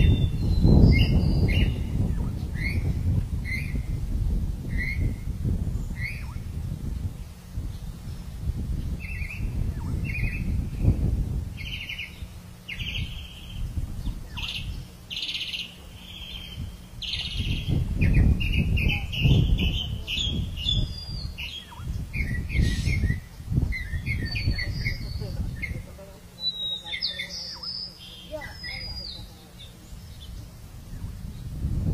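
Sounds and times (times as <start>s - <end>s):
birds chirping: 0.0s - 31.9s
low uneven rumble: 0.0s - 31.9s.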